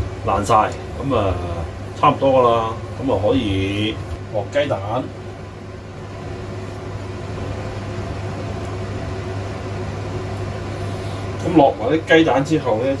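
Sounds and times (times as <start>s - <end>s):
kitchen fan whirring: 0.0s - 13.0s
low electrical hum: 0.0s - 13.0s.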